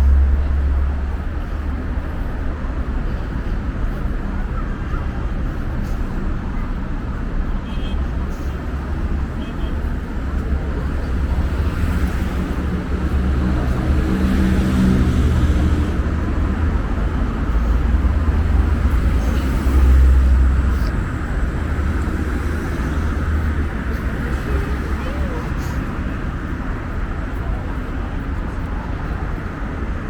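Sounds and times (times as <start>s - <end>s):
traffic rumble: 0.0s - 30.0s
vehicles passing: 0.0s - 30.0s.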